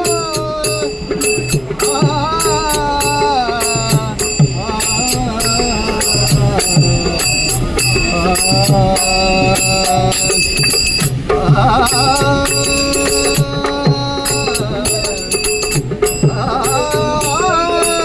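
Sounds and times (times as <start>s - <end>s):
low drum beats: 0.0s - 18.0s
ringing cymbal strikes: 0.0s - 18.0s
wordless singing voice: 0.0s - 18.0s.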